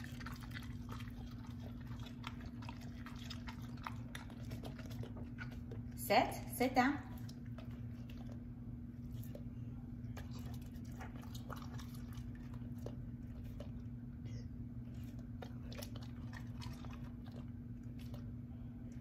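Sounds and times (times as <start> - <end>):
dog chewing with wet smacks: 0.0 - 6.0, 6.8 - 19.0
steady low hum: 0.0 - 19.0.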